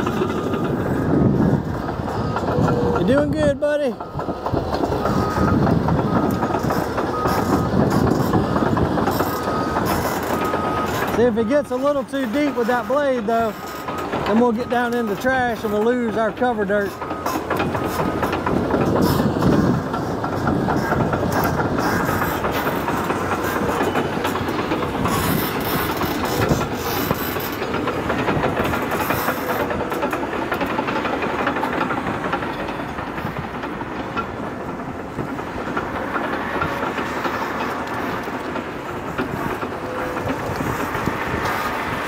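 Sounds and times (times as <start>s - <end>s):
bulldozer diesel engine under load: 0.0s - 42.0s
steel tracks clattering: 0.0s - 42.0s.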